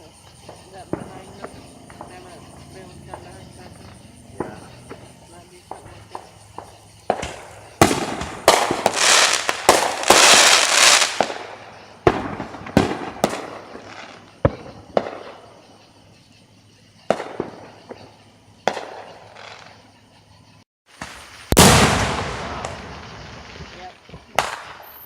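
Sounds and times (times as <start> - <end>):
fireworks bangs and crackling: 0.0 - 20.0, 20.9 - 25.0.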